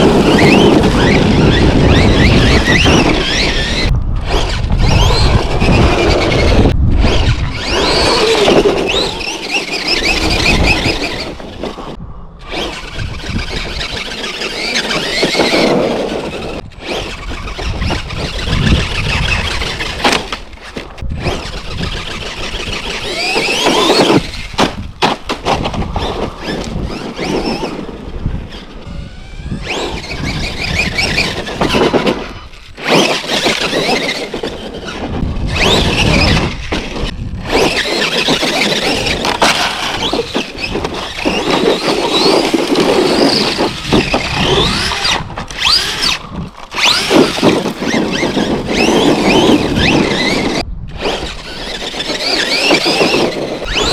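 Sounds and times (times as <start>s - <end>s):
electric motor whining: 0.0s - 11.7s, 12.4s - 24.8s, 26.0s - 53.9s
drivetrain and tyre noise: 0.0s - 53.9s.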